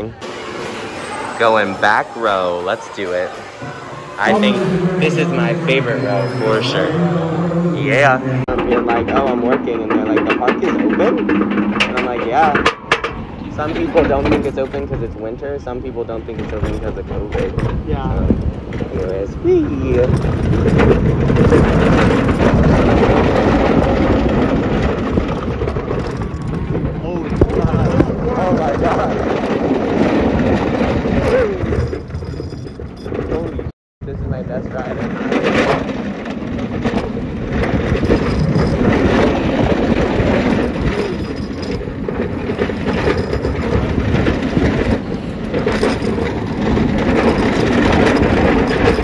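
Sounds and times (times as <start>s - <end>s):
roller coaster wheels rumbling: 0.0s - 49.0s.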